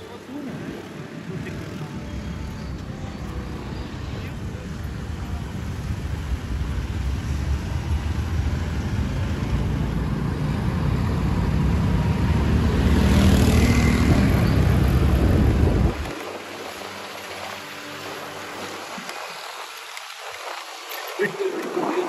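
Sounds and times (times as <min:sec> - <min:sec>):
motorcycle ride rumble of wind and engine: 0:00.0 - 0:22.0.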